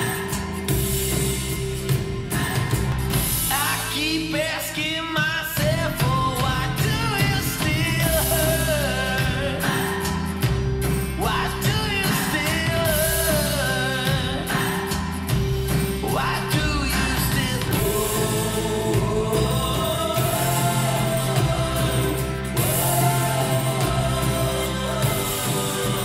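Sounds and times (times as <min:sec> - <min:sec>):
pop-rock song with singing: 0:00.0 - 0:26.0.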